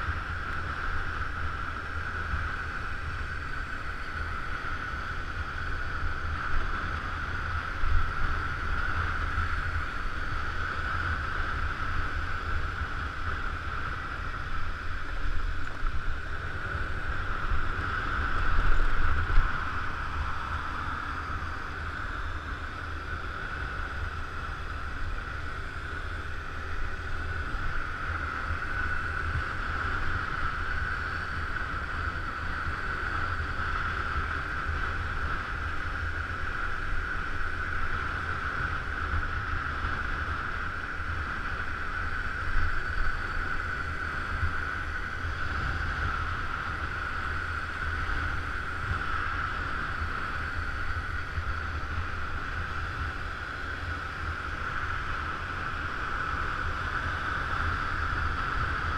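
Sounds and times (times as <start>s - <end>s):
scooter riding noise: 0.0s - 58.9s.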